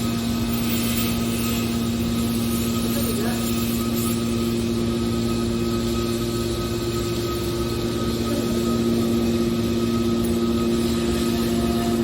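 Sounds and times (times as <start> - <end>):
heavy machinery humming: 0.0 - 12.0.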